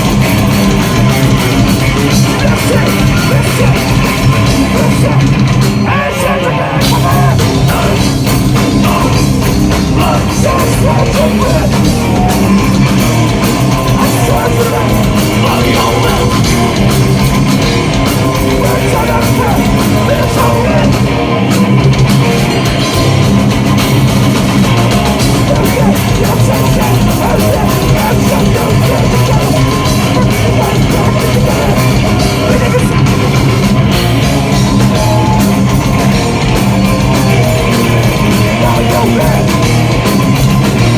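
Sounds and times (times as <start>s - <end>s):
distorted electric guitars: 0.0s - 40.9s
drum kit: 0.0s - 40.9s.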